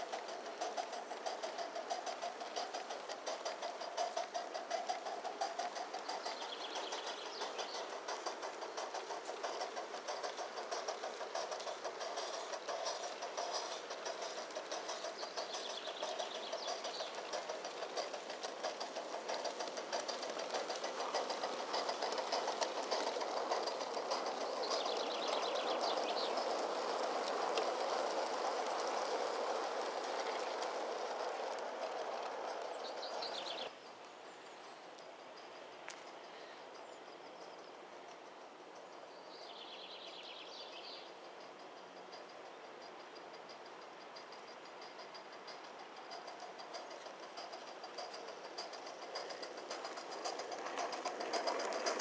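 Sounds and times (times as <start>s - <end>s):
small birds chirping: 0.0s - 28.0s, 31.3s - 52.0s
model steam locomotive chuffing: 0.0s - 52.0s
rail clatter: 0.0s - 52.0s.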